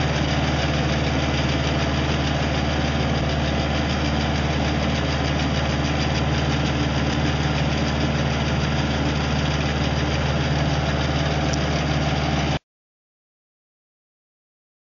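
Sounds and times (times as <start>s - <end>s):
tractor engine drone: 0.0s - 12.6s.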